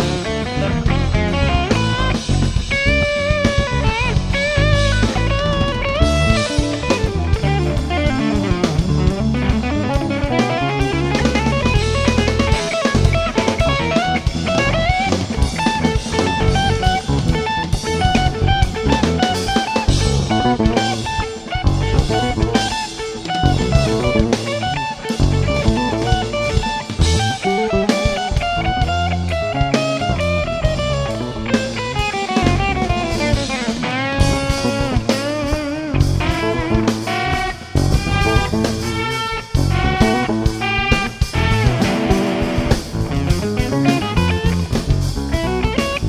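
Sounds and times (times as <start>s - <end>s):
drum kit with cymbal crashes: 0.0s - 46.0s
electric guitar melody: 0.0s - 46.0s.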